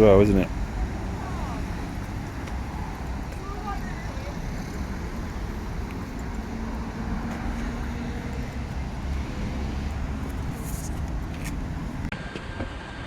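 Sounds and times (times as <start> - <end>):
road traffic rumble: 0.0 - 12.2.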